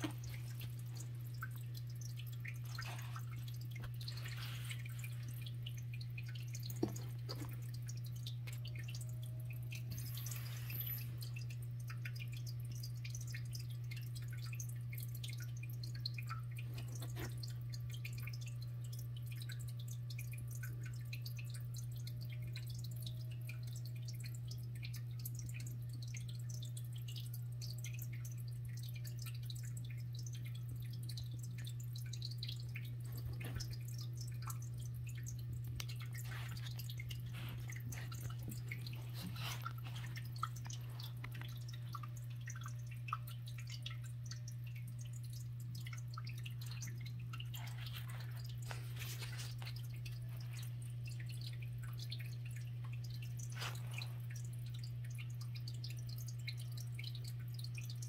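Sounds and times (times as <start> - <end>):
faint clicks and ticks: 0.0 - 58.0.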